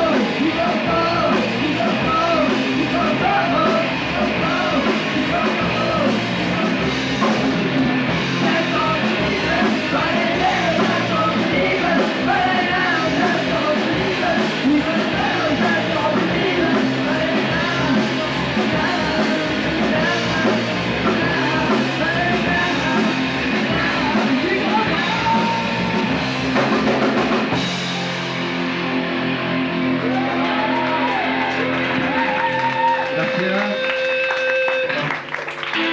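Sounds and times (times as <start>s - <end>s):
punk rock singing: 0.0s - 35.0s
drums: 0.0s - 35.9s
electric guitar: 0.0s - 35.9s.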